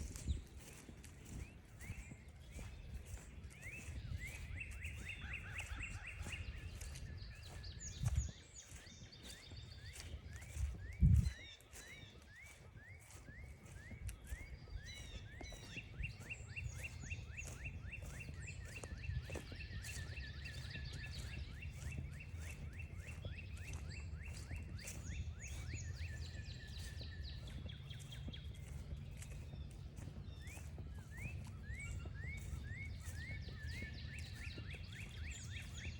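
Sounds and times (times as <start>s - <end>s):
footsteps crunching on trail: 0.0s - 35.9s.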